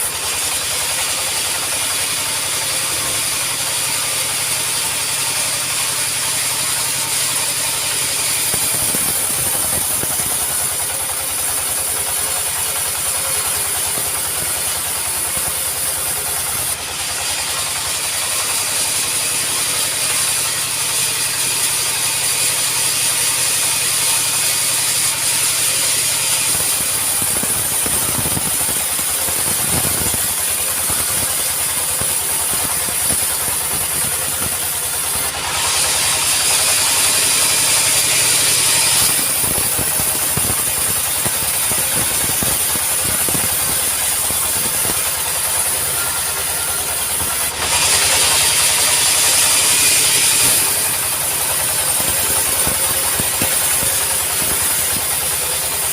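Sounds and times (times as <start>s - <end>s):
sawmill clattering: 0.0s - 55.9s.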